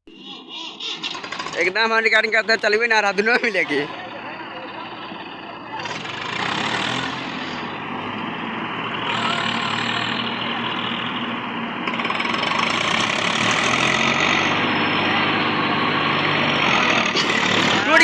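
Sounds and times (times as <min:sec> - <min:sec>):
diesel tractor engine running: 0:00.1 - 0:18.0.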